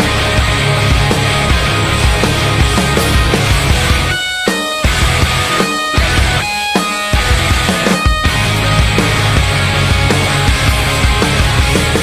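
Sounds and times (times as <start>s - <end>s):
loud rock band playing: 0.0s - 12.0s.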